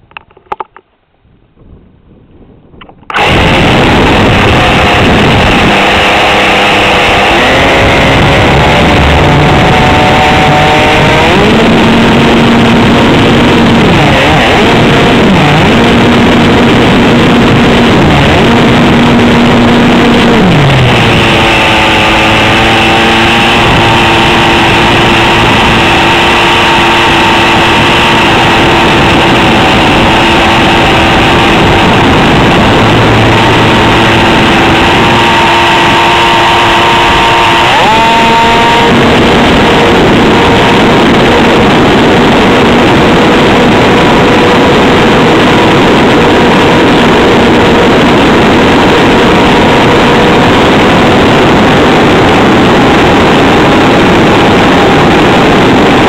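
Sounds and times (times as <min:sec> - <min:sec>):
model engine running hard: 0:03.1 - 0:56.0.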